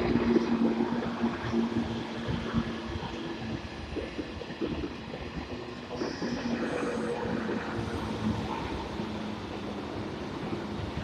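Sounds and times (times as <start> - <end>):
train hum: 0.0 - 11.0.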